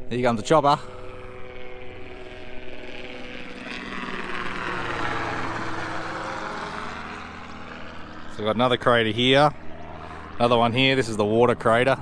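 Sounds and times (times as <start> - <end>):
helicopter flying over: 0.0 - 12.0.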